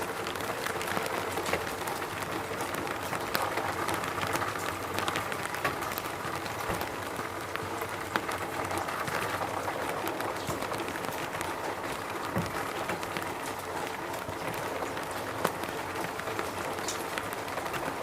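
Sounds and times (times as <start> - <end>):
raindrops ticking: 0.0 - 18.0
steady rain falling: 0.0 - 18.0.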